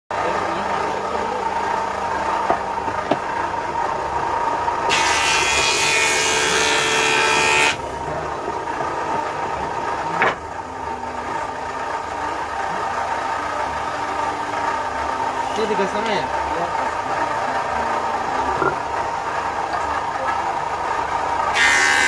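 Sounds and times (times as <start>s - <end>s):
table saw motor hum: 0.2s - 22.0s.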